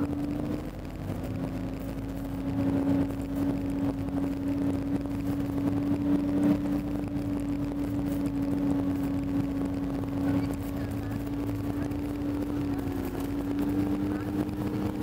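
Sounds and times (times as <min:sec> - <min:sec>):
tracked vehicle engine droning: 0:00.0 - 0:15.0.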